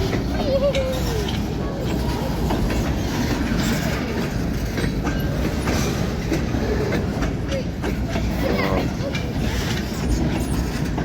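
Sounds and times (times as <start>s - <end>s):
train cars rumbling: 0.0s - 11.0s
wheels clicking over rails: 0.0s - 11.0s.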